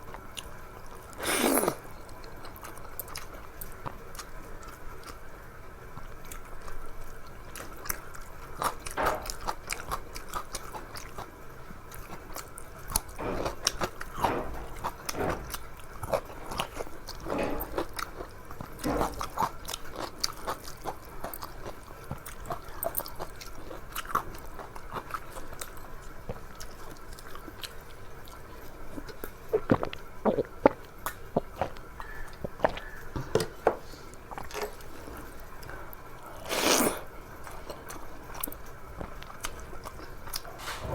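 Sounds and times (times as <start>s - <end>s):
chewing and mouth smacking: 0.1s - 5.2s, 11.9s - 33.2s, 34.1s - 40.9s.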